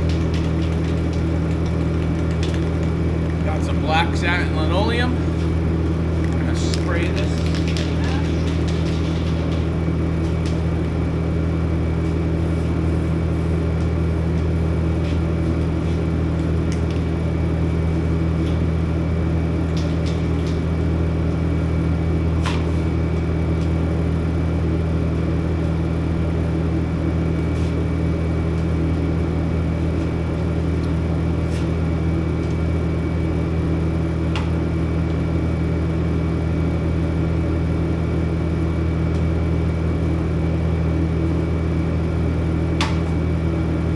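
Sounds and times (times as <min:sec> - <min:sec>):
machine hum with high whine: 0:00.0 - 0:43.9.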